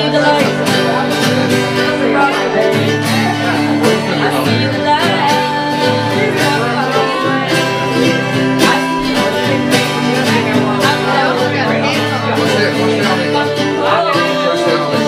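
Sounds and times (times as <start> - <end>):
acoustic guitar strumming: 0.0 - 15.0
mandolin playing: 0.0 - 15.0.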